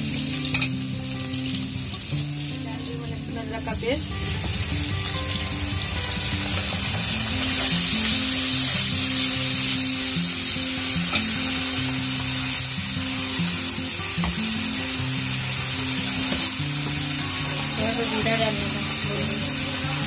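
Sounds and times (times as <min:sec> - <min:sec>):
background music of held notes: 0:00.0 - 0:20.0
onions sizzling in hot oil: 0:00.0 - 0:20.0.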